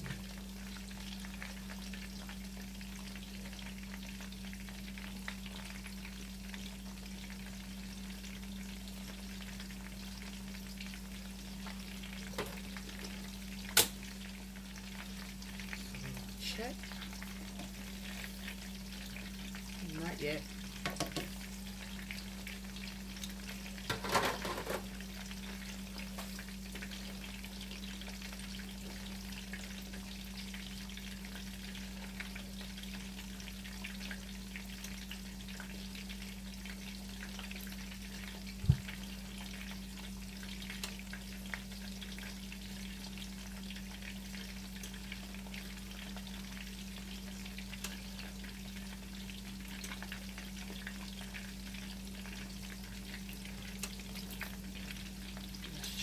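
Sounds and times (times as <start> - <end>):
cutlets sizzling in oil: 0.0 - 56.0.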